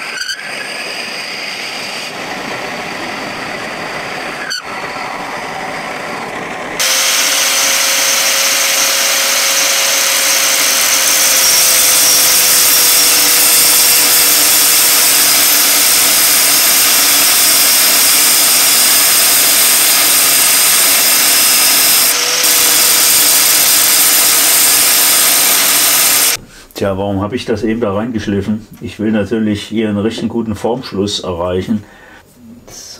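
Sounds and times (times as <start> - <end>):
angle grinder grinding steel: 0.0 - 26.4.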